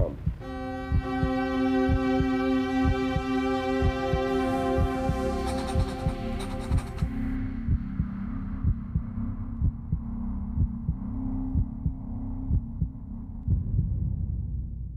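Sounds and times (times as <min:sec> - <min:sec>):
heartbeat thumps: 0:00.0 - 0:14.9
steady low drone: 0:00.0 - 0:14.9.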